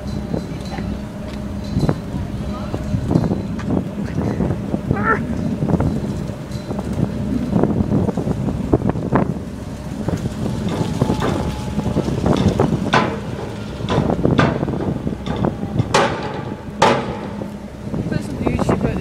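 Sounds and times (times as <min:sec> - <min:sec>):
low engine rumble: 0:00.0 - 0:19.0
wind buffeting microphone: 0:00.0 - 0:19.0.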